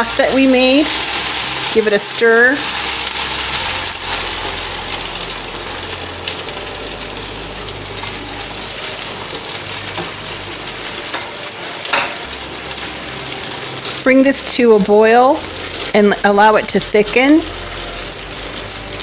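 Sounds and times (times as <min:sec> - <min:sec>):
sauce sizzling in a skillet: 0:00.0 - 0:19.0.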